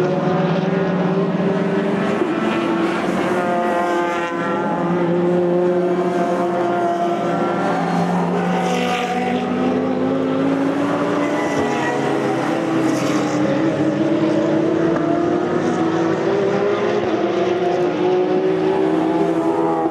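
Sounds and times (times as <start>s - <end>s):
race car engines accelerating and passing: 0.0s - 19.9s.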